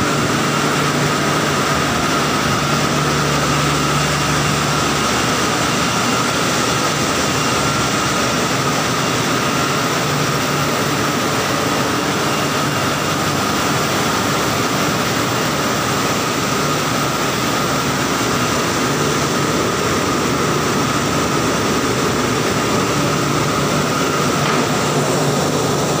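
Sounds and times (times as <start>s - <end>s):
constant high whine: 0.0s - 26.0s.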